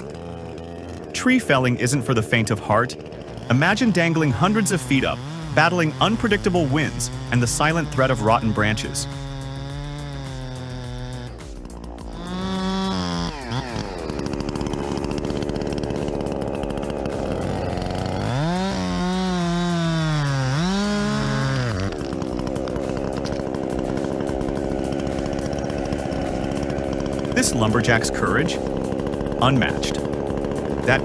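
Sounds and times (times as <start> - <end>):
chainsaw revving: 0.0 - 31.0.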